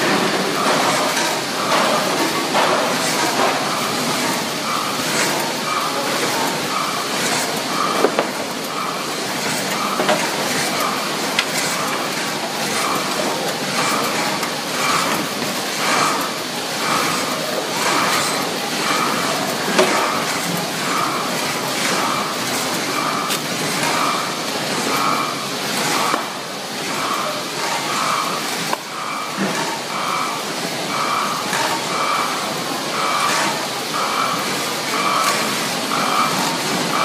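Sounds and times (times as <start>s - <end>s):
packaging machine running: 0.0s - 37.0s.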